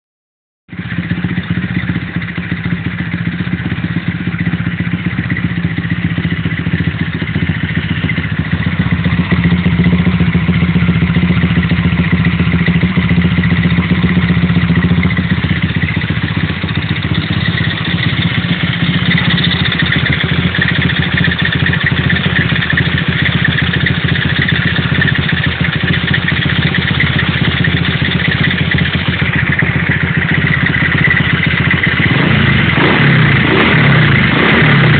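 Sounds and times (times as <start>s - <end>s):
moped engine running: 0.7s - 34.9s.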